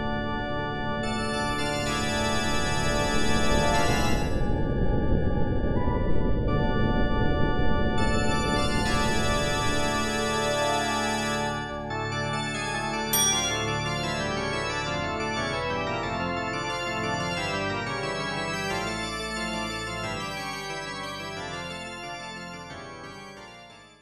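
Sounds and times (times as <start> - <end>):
sustained keyboard chords: 0.0 - 4.4, 8.0 - 24.0.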